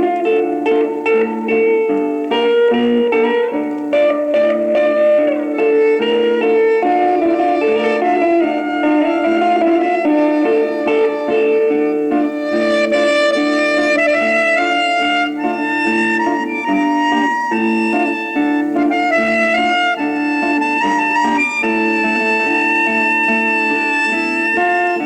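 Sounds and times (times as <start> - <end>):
instrumental pop song on record: 0.0 - 25.0.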